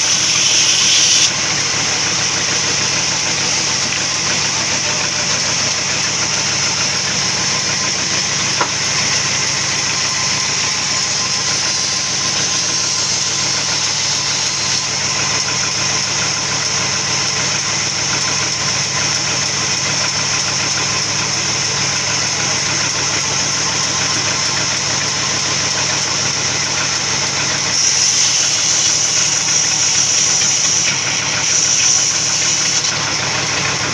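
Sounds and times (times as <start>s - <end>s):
sawmill machinery drone: 0.0s - 33.9s.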